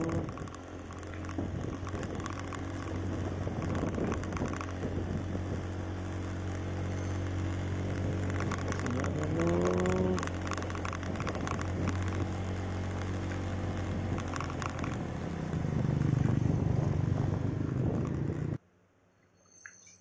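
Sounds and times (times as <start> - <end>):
crackling noise: 0.0 - 18.6
vehicle engine running: 0.0 - 18.6.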